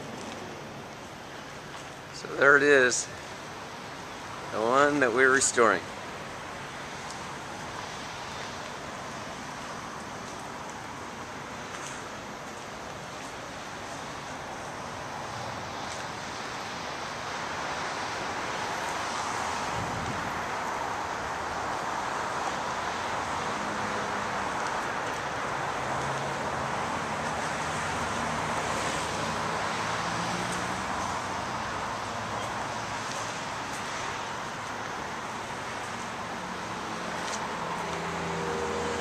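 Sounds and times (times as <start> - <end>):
distant road traffic: 0.0 - 39.0
wind: 0.0 - 39.0.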